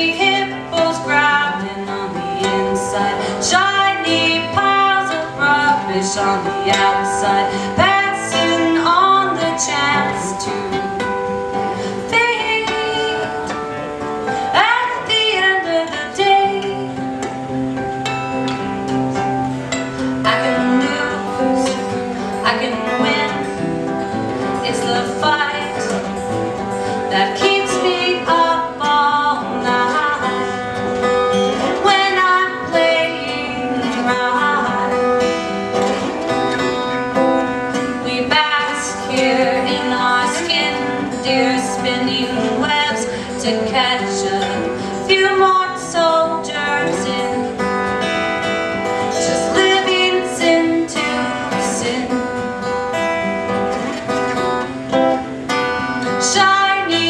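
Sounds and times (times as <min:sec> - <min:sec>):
band music with acoustic guitar: 0:00.0 - 0:57.0.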